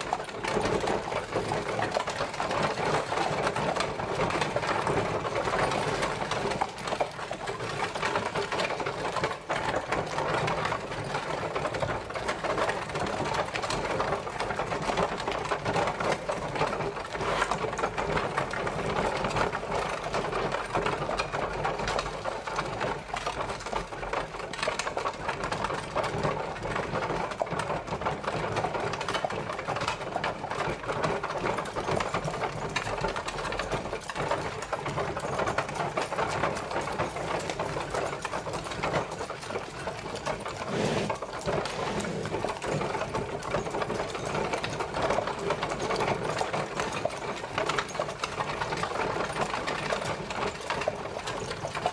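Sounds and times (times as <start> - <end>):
horse-drawn carriage rattling: 0.0 - 51.9.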